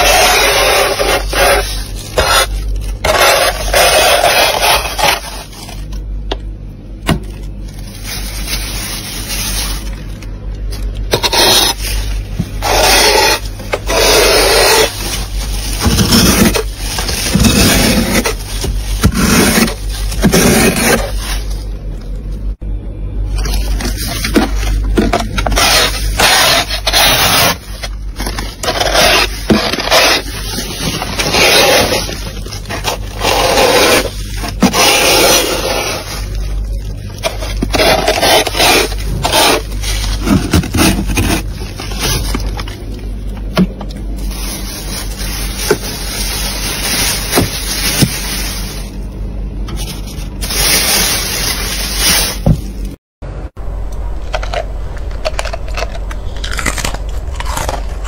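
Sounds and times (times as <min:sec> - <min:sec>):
scraping frost in freezer: 0:00.0 - 0:06.2, 0:07.2 - 0:53.0.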